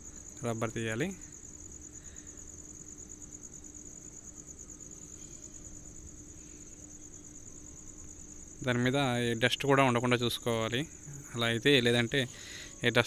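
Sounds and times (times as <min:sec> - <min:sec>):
faint low hum: 0:00.0 - 0:13.0
insect high-pitched trill: 0:00.0 - 0:13.0.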